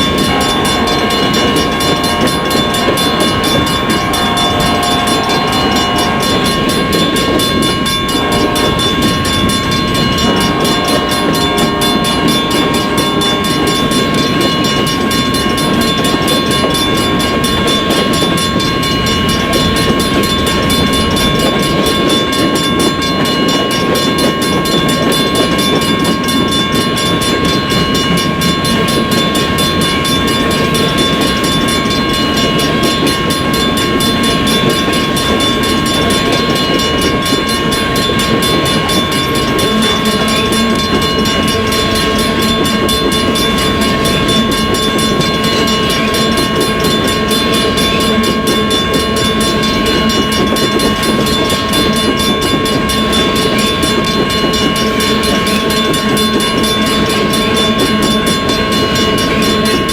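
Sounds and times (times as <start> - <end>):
train cars rumbling on rails: 0.0 - 59.9
wheels clicking: 0.0 - 59.9.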